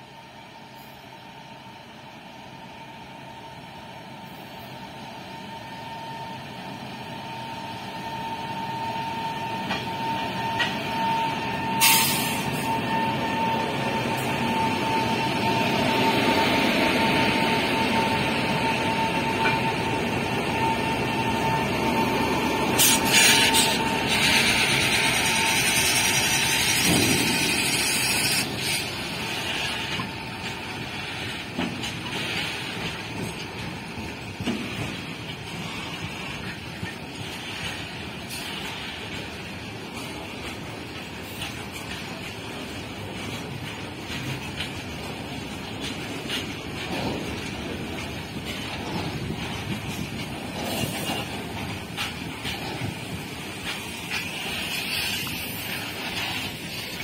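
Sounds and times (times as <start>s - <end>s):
freight train rumble and rail noise: 0.0s - 57.0s.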